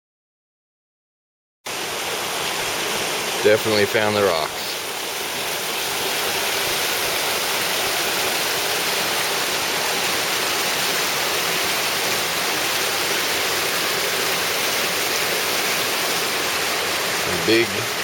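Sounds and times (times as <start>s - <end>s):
creek water rushing over rocks: 1.7s - 18.0s.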